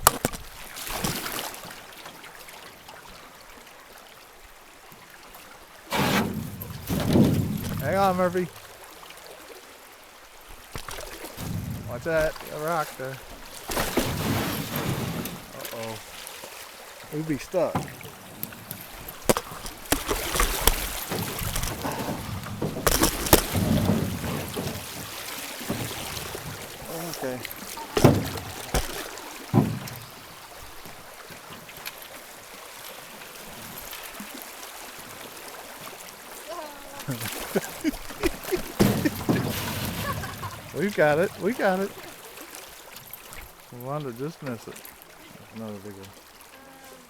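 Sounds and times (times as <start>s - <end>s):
water lapping around canoe: 0.0s - 47.0s.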